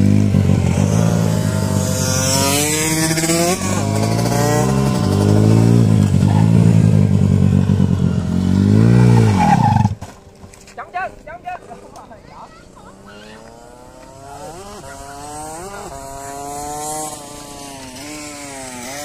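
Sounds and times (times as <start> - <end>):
motorcycle engine revving: 0.0 - 10.7, 11.4 - 19.0
small motorcycle engines: 0.0 - 19.0.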